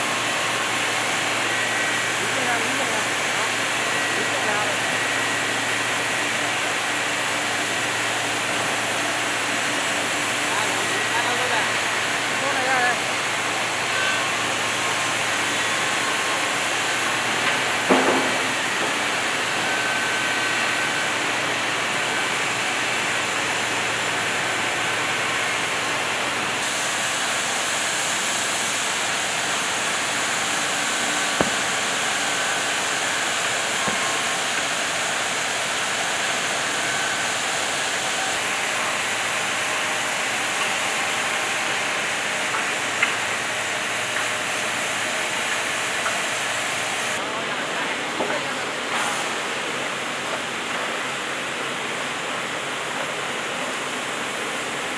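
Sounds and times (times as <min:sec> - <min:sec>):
sawmill machinery din: 0:00.0 - 0:54.9.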